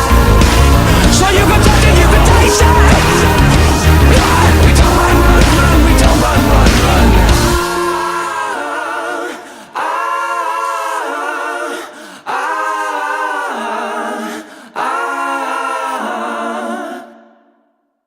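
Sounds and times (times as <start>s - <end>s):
choral voices holding chords: 0.0s - 17.7s.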